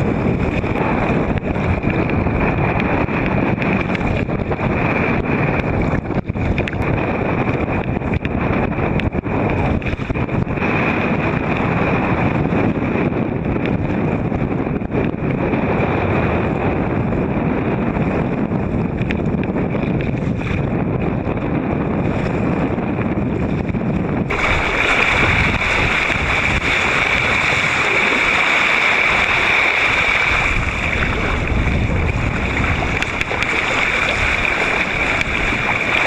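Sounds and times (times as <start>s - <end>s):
rough water rushing and splashing: 0.0s - 36.0s
wind: 0.0s - 36.0s.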